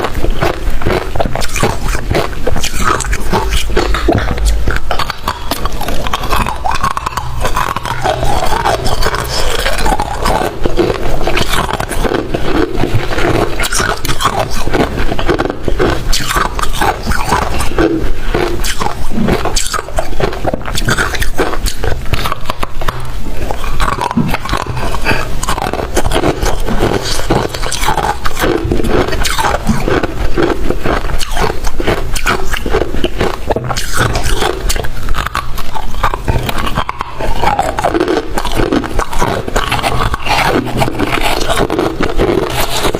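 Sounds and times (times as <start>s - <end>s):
crunching and chewing ice: 0.0s - 42.9s.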